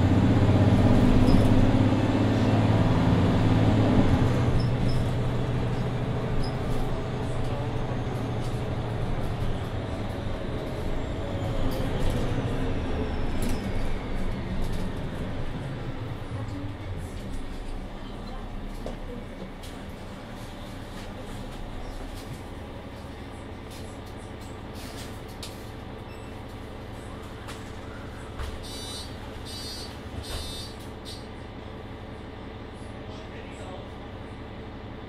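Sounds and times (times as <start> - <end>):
bus engine hum: 0.0 - 35.0
bus rolling rumble: 0.0 - 35.0.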